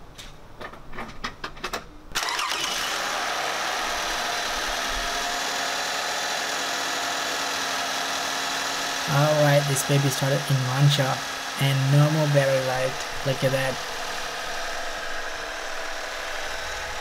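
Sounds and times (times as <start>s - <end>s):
car engine cranking and idling: 2.2s - 17.0s.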